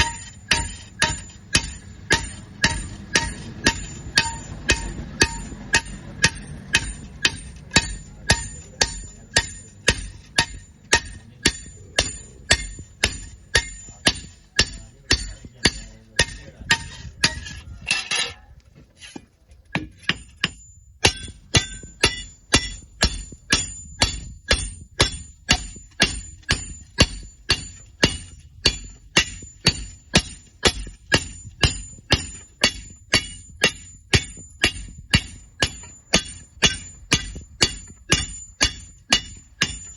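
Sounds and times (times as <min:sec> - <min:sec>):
hammer striking iron: 0:00.0 - 0:39.9.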